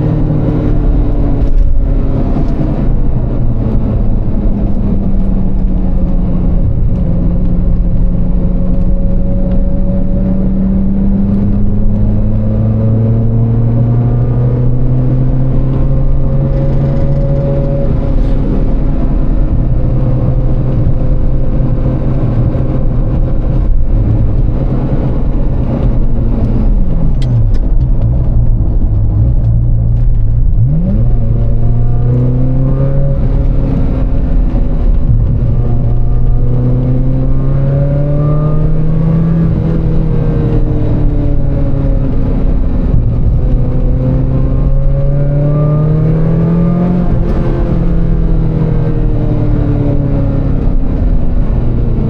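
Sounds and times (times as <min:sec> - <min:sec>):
car engine running: 0:00.0 - 0:52.0
low road rumble: 0:00.0 - 0:52.0.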